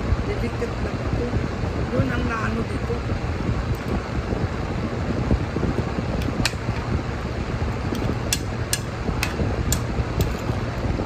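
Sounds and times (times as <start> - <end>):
fan-like background hum: 0.0 - 11.0.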